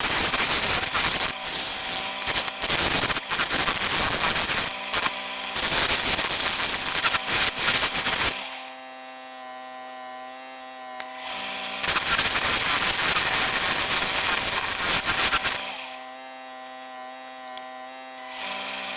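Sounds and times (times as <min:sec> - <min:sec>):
tool cutting spinning wood: 0:00.0 - 0:09.3, 0:10.4 - 0:16.8, 0:17.4 - 0:18.9
lathe motor hum: 0:00.0 - 0:18.9.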